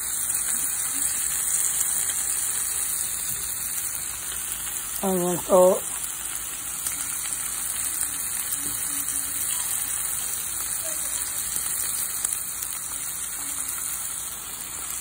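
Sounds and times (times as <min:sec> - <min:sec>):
steak sizzling in a pan: 0:00.0 - 0:15.0.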